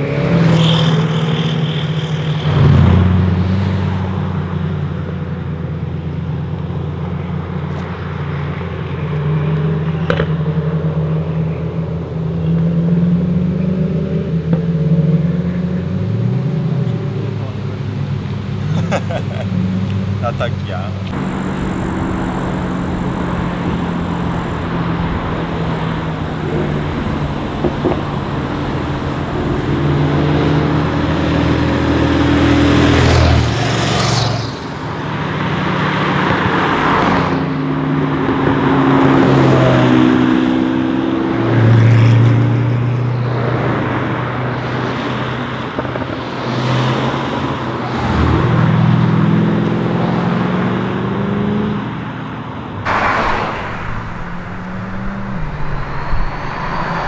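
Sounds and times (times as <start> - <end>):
sports cars accelerating past: 0.0 - 20.4, 21.1 - 57.0.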